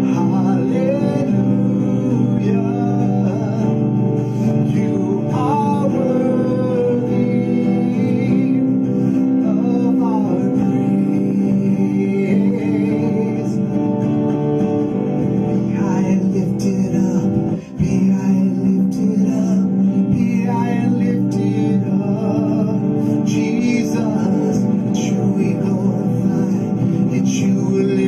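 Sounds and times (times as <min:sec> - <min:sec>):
man singing: 0:00.0 - 0:14.6, 0:15.2 - 0:28.0
strummed acoustic guitar: 0:00.0 - 0:28.0.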